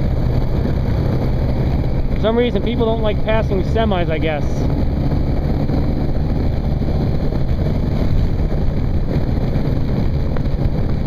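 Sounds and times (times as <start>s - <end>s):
motorcycle engine drone: 0.0s - 11.0s
wind rushing on microphone: 0.0s - 11.0s.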